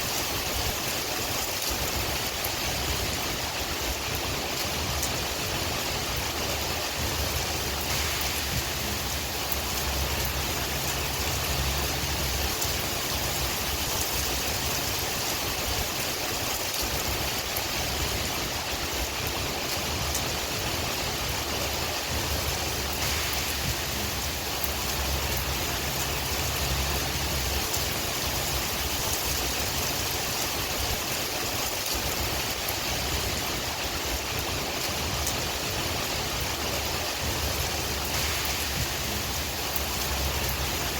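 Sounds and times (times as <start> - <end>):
low wind rumble: 0.0 - 40.9
steady rain hiss: 0.0 - 40.9.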